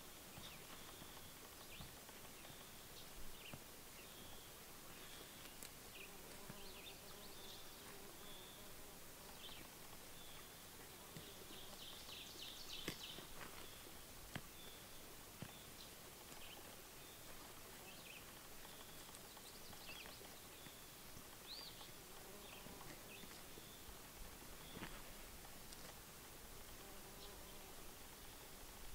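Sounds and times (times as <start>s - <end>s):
insect buzzing: 0.0s - 28.9s.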